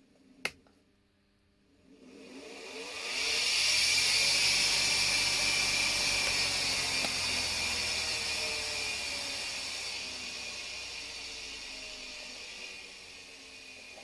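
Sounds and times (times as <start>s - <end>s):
washing machine motor whirring: 1.8s - 14.0s.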